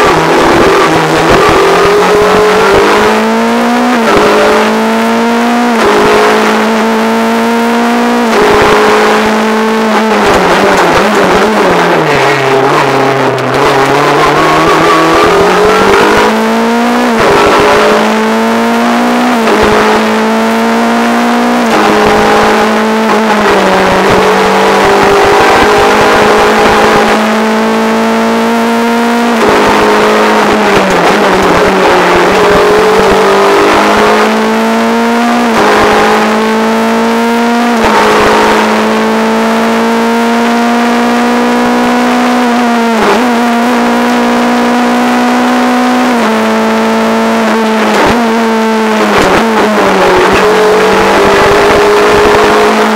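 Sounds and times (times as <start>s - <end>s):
gear changes: 0.0s - 52.9s
rally car engine at full load: 0.0s - 52.9s.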